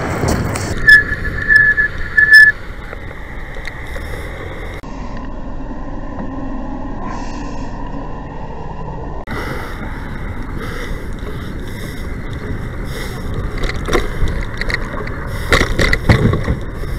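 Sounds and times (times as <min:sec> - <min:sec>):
wind and road noise: 0:00.0 - 0:16.9.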